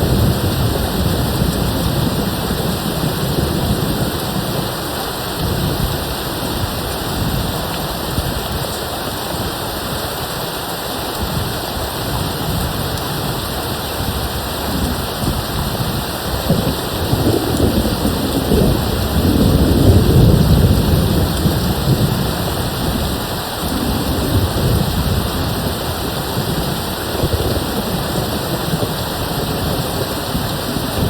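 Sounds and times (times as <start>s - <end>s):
distant thunder rumbling: 0.0s - 8.7s, 11.2s - 31.0s
rain hissing: 0.0s - 31.0s.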